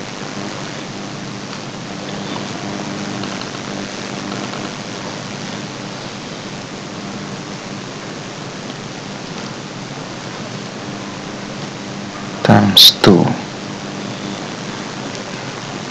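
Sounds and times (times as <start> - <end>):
steady hiss: 0.0 - 15.9.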